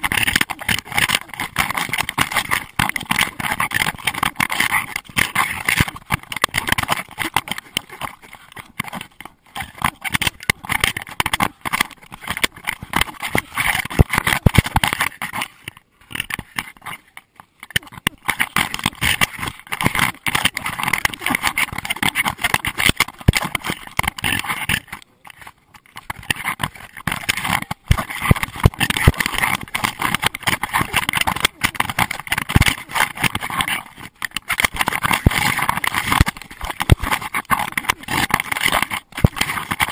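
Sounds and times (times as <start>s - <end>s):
camera housing knocking and rattling: 0.0s - 39.9s.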